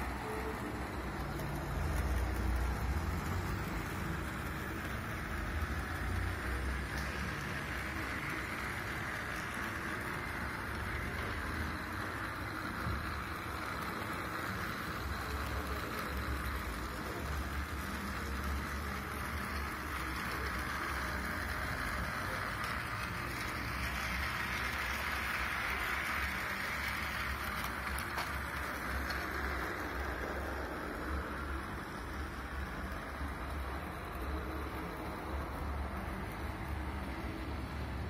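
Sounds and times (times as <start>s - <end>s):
model train car whirring on rails: 0.0s - 38.0s.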